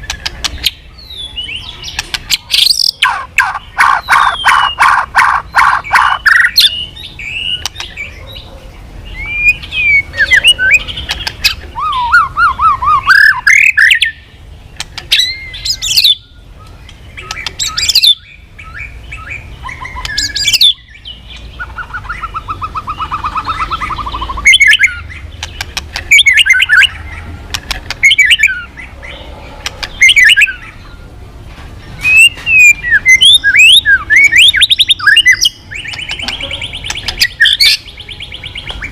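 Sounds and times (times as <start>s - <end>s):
songbird singing trills and whistles: 0.0s - 31.2s, 31.8s - 38.9s.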